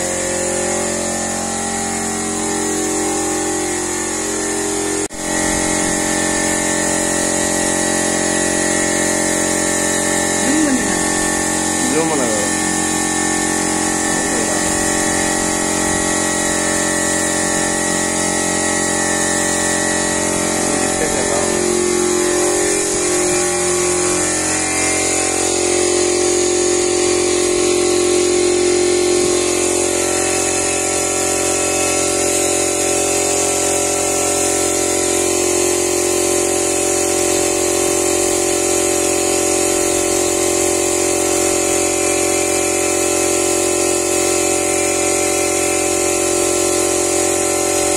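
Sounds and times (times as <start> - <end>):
air compressor running: 0.0 - 47.9
spray gun air hissing: 0.3 - 47.9.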